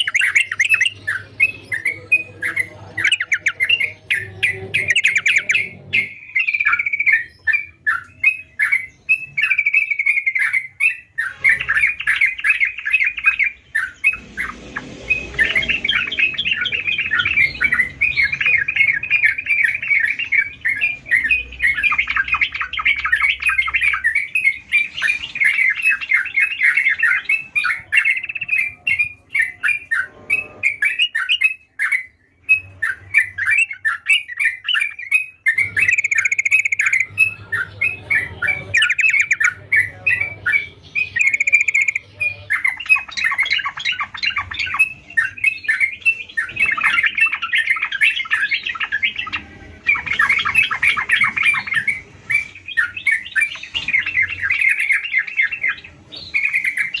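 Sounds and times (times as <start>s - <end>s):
bird singing chattering notes: 0.0s - 57.0s.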